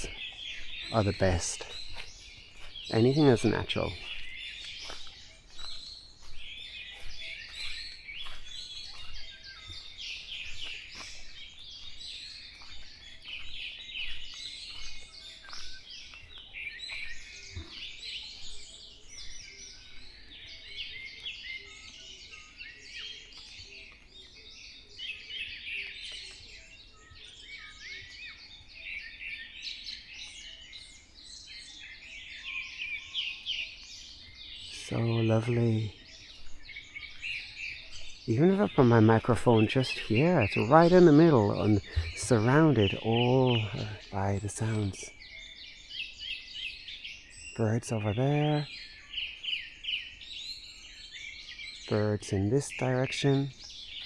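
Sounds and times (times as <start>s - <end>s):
chorus of songbirds singing: 0.0s - 54.0s.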